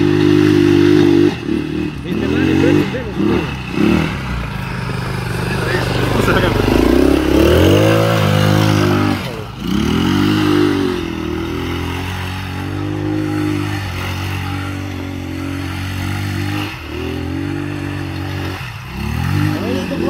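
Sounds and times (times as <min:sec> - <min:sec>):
quad bike engine revving: 0:00.0 - 0:20.0.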